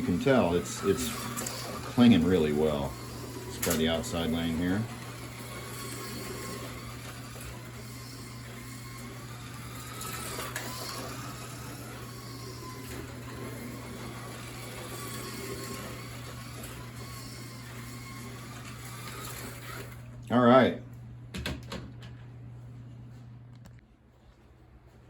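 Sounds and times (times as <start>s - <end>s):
slot car motor whining: 0.0s - 20.8s.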